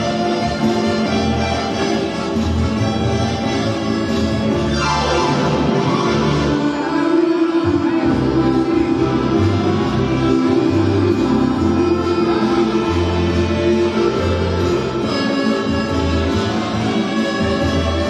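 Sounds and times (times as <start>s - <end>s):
accordion playing a dance tune: 0.0s - 18.0s.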